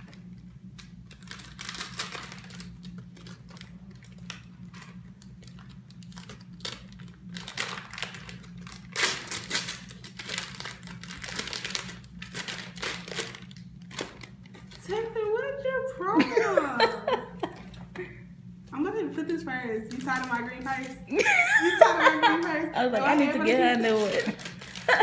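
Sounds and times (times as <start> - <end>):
gift wrapping crinkling: 0.0 - 15.1, 19.8 - 25.0.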